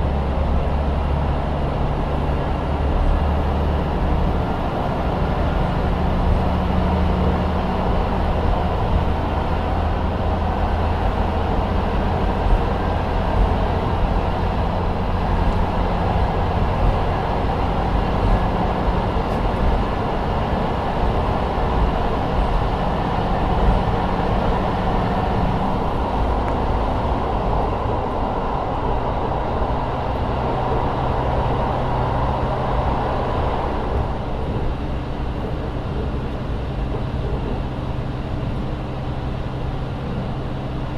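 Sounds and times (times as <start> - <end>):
diesel engine droning: 0.0 - 40.9
train running noise: 0.0 - 40.9.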